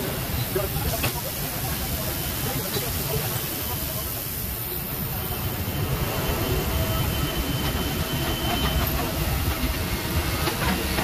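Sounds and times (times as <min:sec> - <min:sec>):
machinery rumble with hiss: 0:00.0 - 0:11.0.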